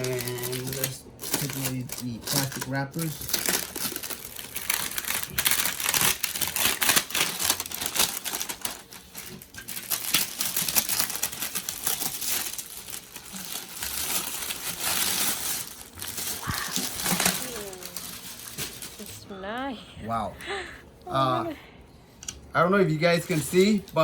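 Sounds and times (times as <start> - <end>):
plastic tearing: 0.0 - 19.3
plastic wrapping crinkling: 0.0 - 19.6, 23.0 - 24.0.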